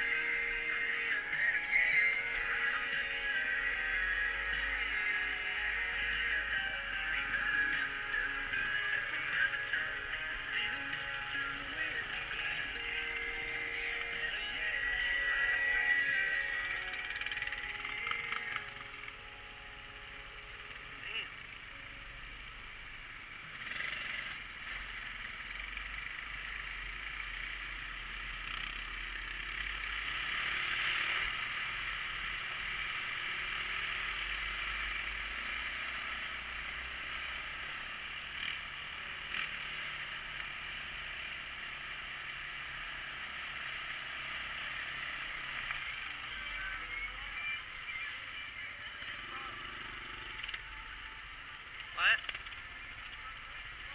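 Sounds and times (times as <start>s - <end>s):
vehicle engine drone: 0.0s - 53.9s.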